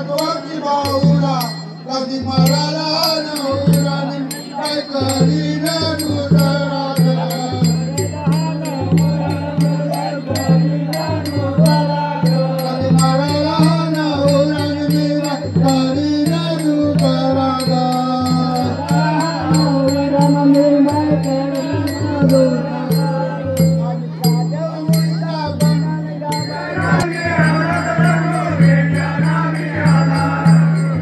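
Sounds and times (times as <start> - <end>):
voices singing together: 0.0 - 31.0.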